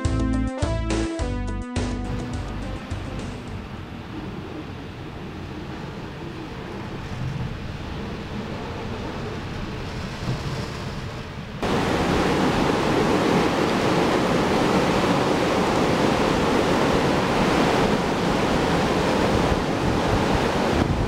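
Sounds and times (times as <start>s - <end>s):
rushing wind and water: 2.0s - 21.0s.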